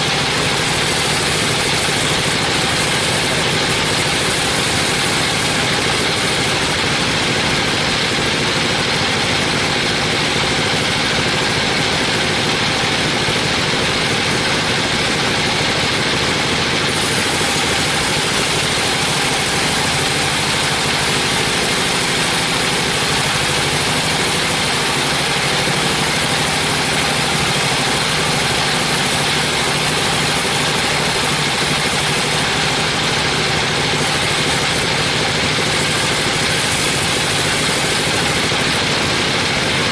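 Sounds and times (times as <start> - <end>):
band sawmill cutting wood: 0.0 - 39.9.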